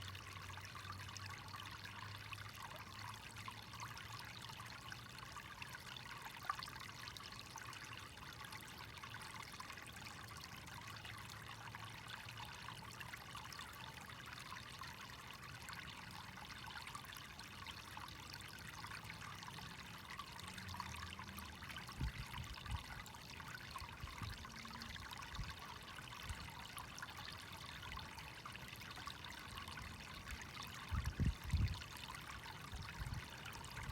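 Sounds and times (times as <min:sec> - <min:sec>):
water trickling: 0:00.0 - 0:33.9.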